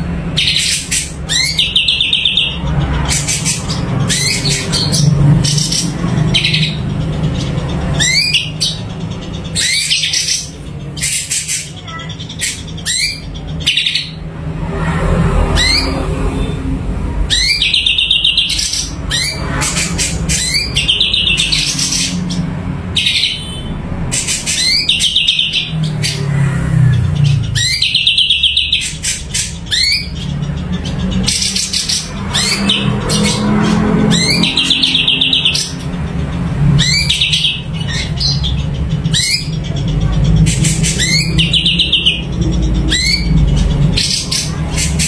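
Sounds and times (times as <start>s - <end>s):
songbird whistling and trilling: 0.4s - 14.2s, 17.3s - 26.3s, 27.1s - 33.5s, 36.7s - 45.0s.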